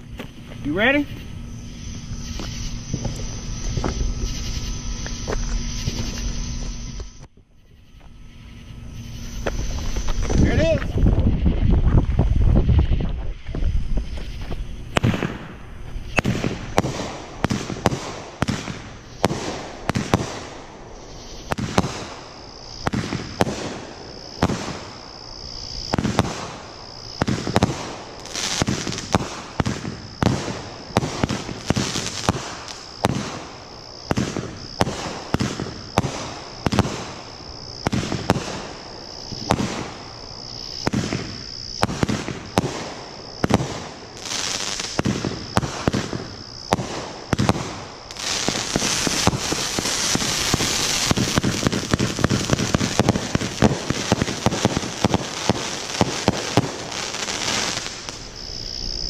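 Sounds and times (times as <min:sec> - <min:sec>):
crickets chirping: 0:00.0 - 0:59.0
fireworks bangs: 0:00.0 - 0:59.0.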